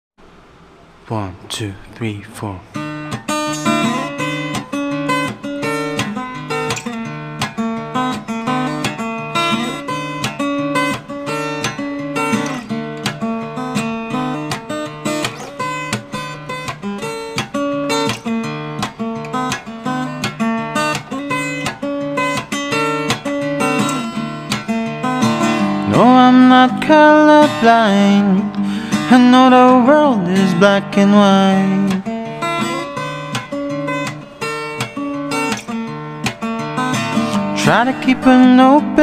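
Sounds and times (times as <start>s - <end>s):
fingerpicked acoustic guitar: 1.0s - 39.0s.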